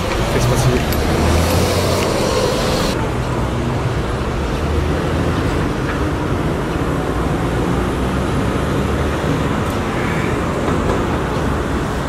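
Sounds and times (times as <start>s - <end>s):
bus driving past: 0.0s - 12.0s
cars passing: 0.0s - 12.0s
low traffic rumble: 0.0s - 12.0s.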